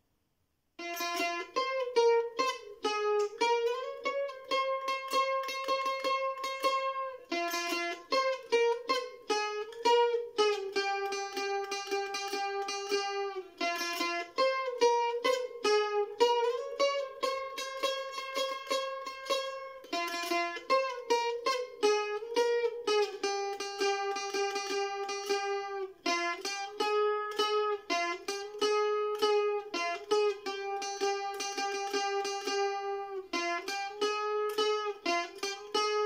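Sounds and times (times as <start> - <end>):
mandolin tremolo melody: 0.8 - 36.0.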